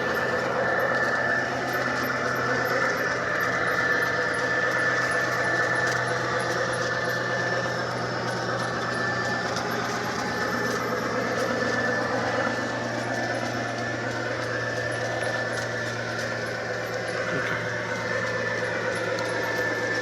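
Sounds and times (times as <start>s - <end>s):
electric motor whine: 0.0s - 20.0s
model train rolling on track: 0.0s - 20.0s.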